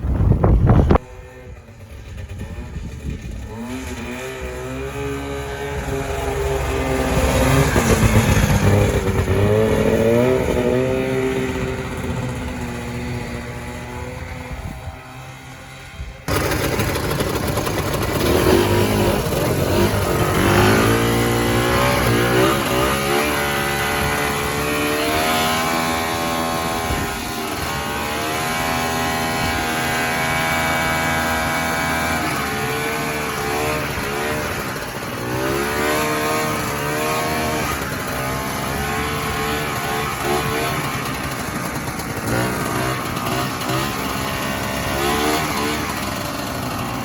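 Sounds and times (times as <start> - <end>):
snowmobile engine revving: 0.1 - 47.0.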